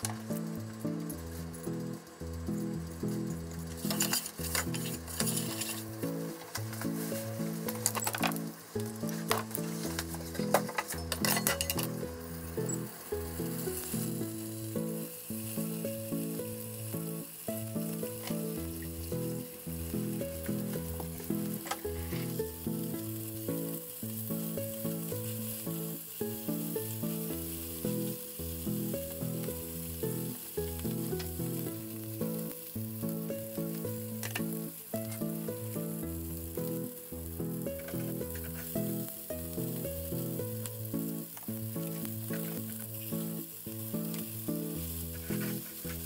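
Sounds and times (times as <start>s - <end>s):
light background music: 0.0s - 46.0s
meat sizzling in a frying pan: 0.0s - 46.0s.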